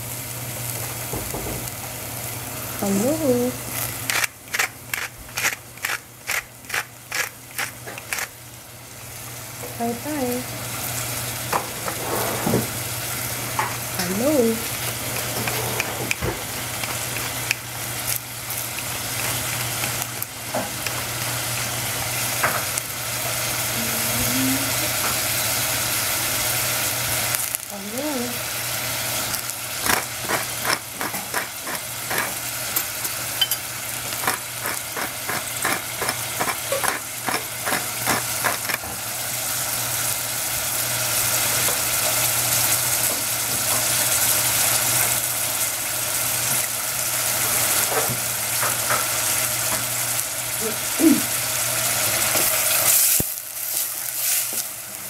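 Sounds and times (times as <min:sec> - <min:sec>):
vegetables sizzling in oil: 0:00.0 - 0:55.0
crackles and pops of frying: 0:00.1 - 0:11.7, 0:16.1 - 0:55.0.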